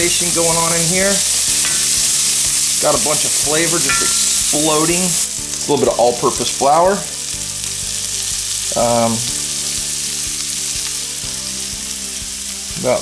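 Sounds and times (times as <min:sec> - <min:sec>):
onions sizzling in grease: 0:00.0 - 0:13.0.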